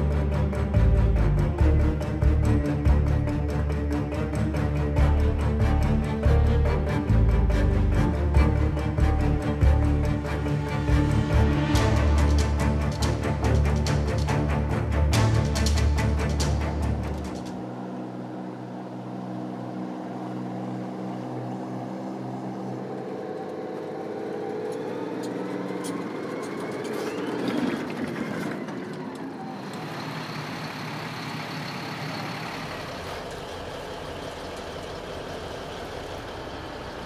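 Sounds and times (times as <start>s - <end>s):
military vehicle engines running: 0.0s - 37.0s
rough vehicle noise: 0.0s - 37.0s
tracked vehicle engine revving: 0.0s - 37.0s.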